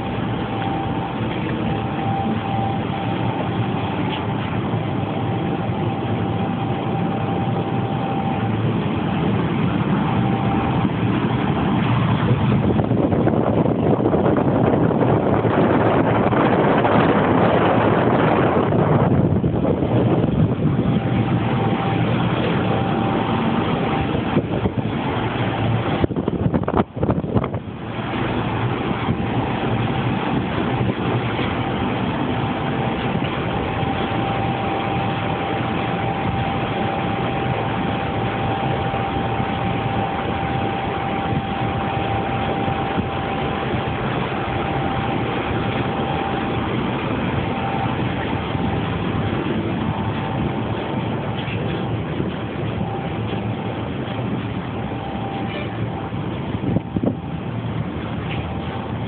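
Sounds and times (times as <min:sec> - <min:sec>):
industrial blower rushing air: 0:00.0 - 0:59.0
thin steady whine: 0:00.0 - 0:59.0.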